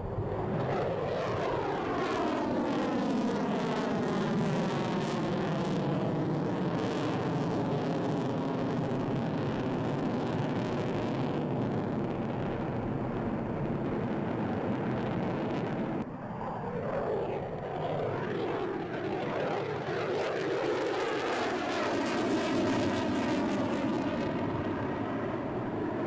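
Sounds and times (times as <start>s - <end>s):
jet engine noise: 0.0s - 26.0s
jet passing by: 0.0s - 26.0s.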